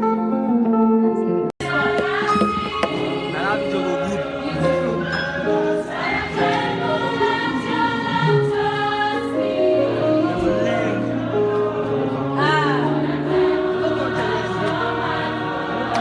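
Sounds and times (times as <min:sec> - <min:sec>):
voices singing in harmony: 0:01.6 - 0:16.0.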